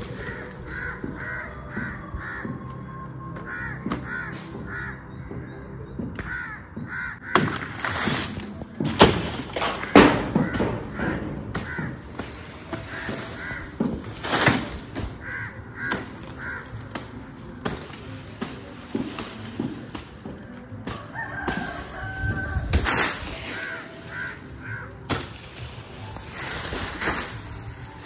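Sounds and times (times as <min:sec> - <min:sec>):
rustling and cracking bursts: 0:00.0 - 0:04.8, 0:06.2 - 0:28.0
crows cawing: 0:00.0 - 0:05.2, 0:06.2 - 0:07.7, 0:09.7 - 0:19.9, 0:21.0 - 0:25.4, 0:26.1 - 0:27.4.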